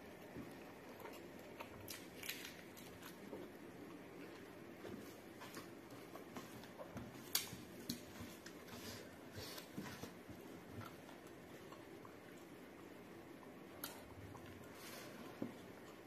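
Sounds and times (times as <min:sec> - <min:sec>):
close chewing and wet mouth sounds: 0:00.0 - 0:16.0.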